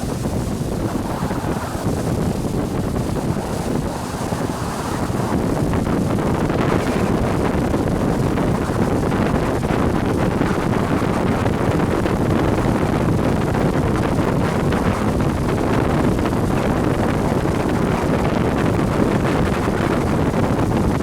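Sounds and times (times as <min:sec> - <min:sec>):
jet ski engine: 0:00.0 - 0:21.0
water noise: 0:00.0 - 0:21.0
wind rushing over microphone: 0:00.0 - 0:21.0.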